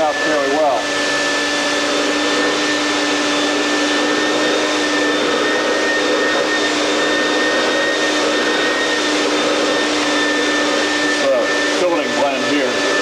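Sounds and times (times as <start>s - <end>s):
motor drone with whine: 0.0s - 13.0s.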